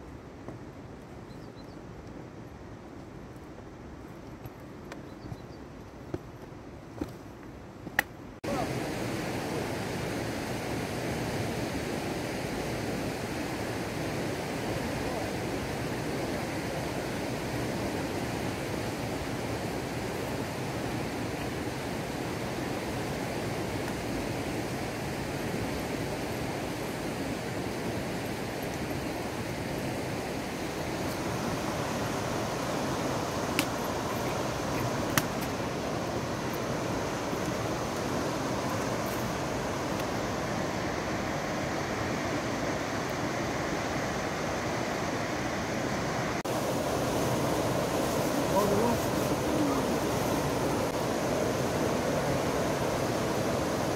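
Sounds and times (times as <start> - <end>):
river rushing: 8.4 - 53.9.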